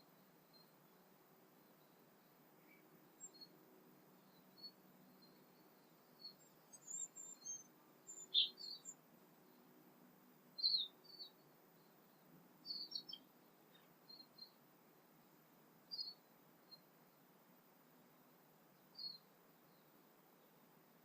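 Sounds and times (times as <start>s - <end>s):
faint low hum: 0.0s - 21.0s
songbirds chirping: 0.0s - 21.0s.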